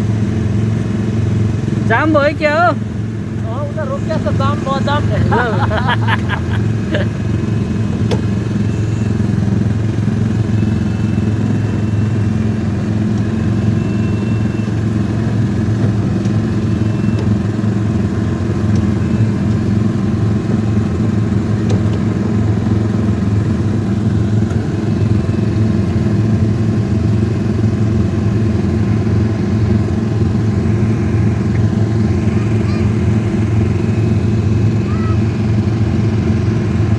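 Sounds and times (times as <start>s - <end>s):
car engine humming: 0.0s - 13.8s, 14.7s - 36.9s.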